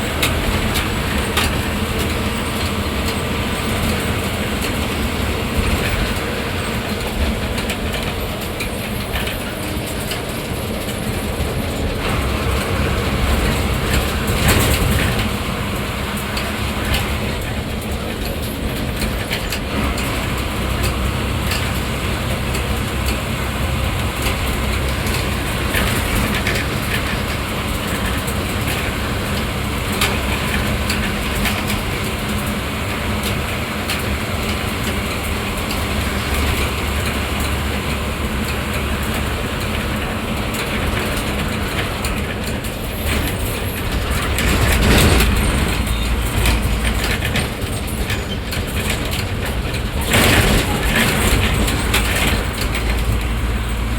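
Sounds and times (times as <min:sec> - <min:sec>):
bus body rattling: 0:00.0 - 0:53.9
bus engine drone: 0:00.0 - 0:53.9
road noise: 0:00.0 - 0:53.9.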